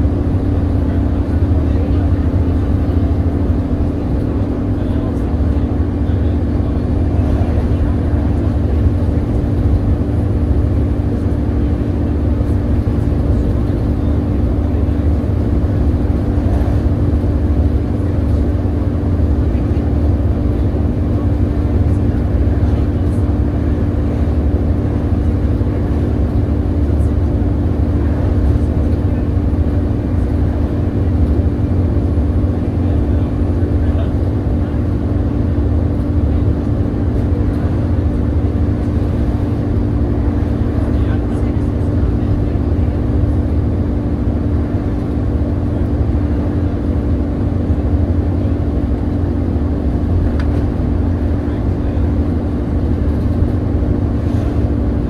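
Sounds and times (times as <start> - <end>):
bus diesel engine rumble: 0.0 - 55.0
cooling fans humming: 0.0 - 55.0.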